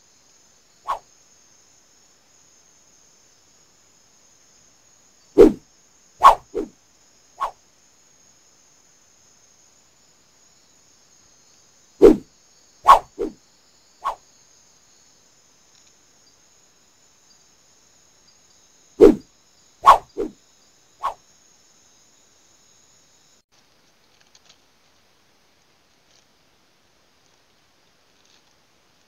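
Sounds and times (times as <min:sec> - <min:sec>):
high insect trill: 0:00.0 - 0:23.4.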